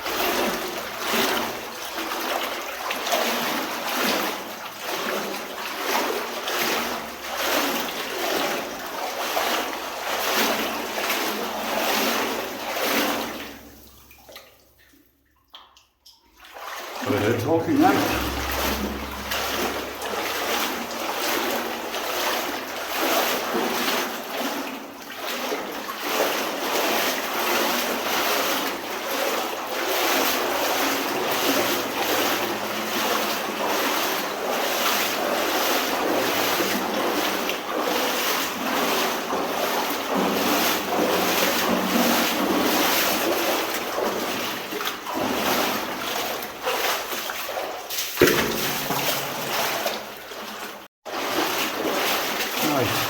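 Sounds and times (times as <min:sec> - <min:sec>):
water sloshing around wading legs: 0:00.0 - 0:53.0.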